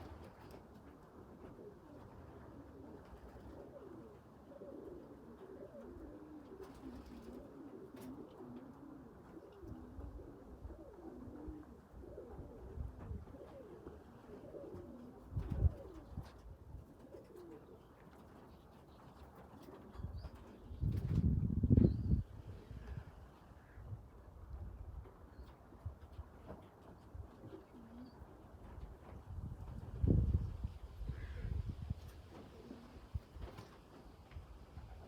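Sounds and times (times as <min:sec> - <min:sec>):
pigeons cooing: 0:01.4 - 0:23.8, 0:26.8 - 0:33.9.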